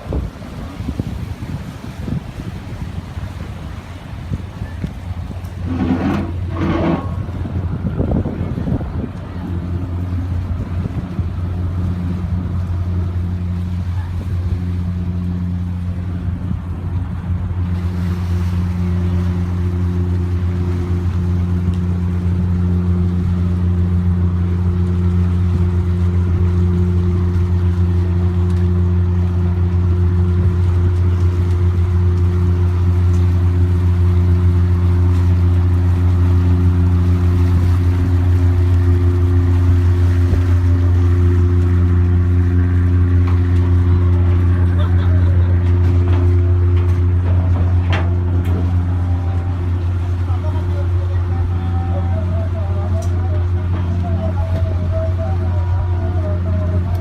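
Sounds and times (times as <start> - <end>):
ship engine droning: 0.0 - 57.0.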